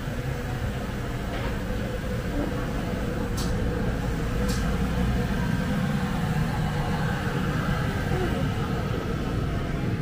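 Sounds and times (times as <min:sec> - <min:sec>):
street market ambience rumble: 0:00.0 - 0:10.0.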